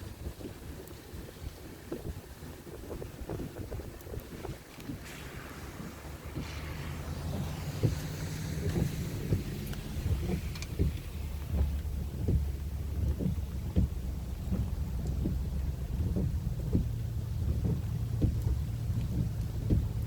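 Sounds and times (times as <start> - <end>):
wind buffeting microphone: 0.0 - 20.0
dull thumps: 2.8 - 20.0.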